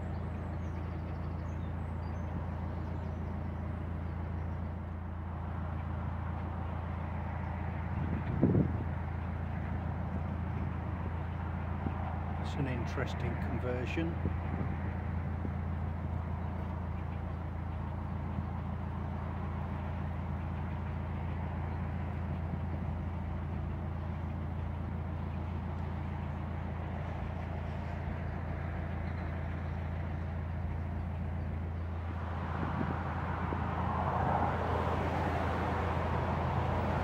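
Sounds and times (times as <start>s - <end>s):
diesel engine low hum: 0.0s - 37.0s
road traffic rushing: 0.0s - 37.0s.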